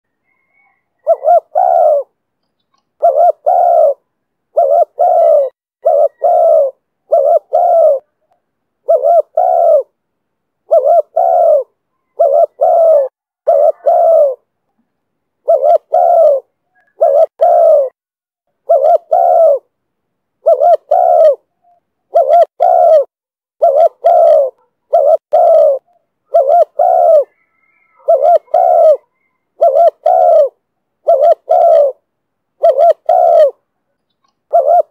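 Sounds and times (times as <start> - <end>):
dove cooing: 0.1 - 10.0, 10.6 - 14.5, 15.4 - 18.0, 18.6 - 19.7, 20.4 - 34.9.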